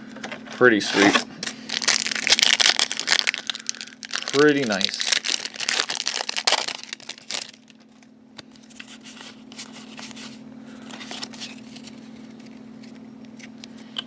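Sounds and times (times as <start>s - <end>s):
steady low hum: 0.0s - 14.0s
trading cards rustling: 0.9s - 13.6s.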